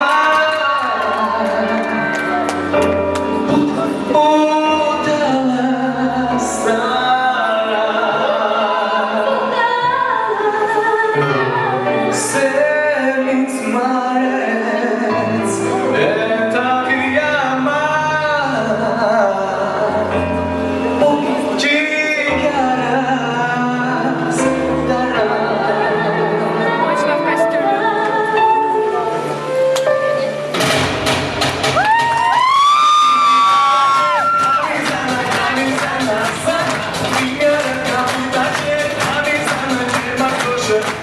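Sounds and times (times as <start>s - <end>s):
person singing: 0.0s - 30.6s, 32.6s - 41.0s.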